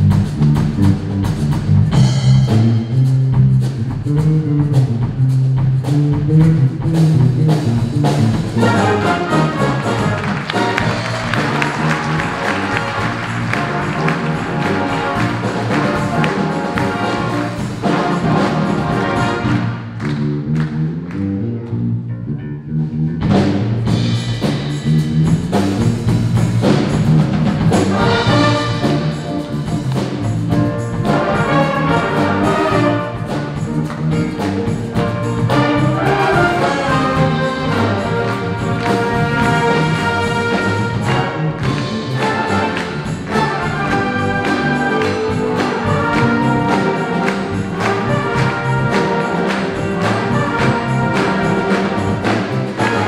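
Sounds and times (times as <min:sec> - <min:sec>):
wind band playing brass and drums: 0:00.0 - 0:20.2, 0:25.4 - 0:53.0.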